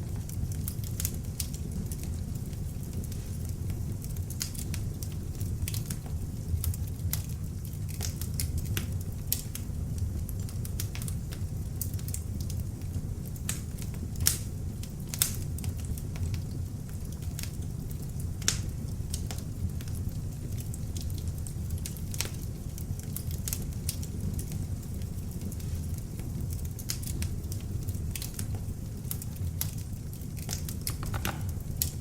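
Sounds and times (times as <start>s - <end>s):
logs crackling and popping: 0.0s - 32.0s
low rush of flame: 0.0s - 32.0s.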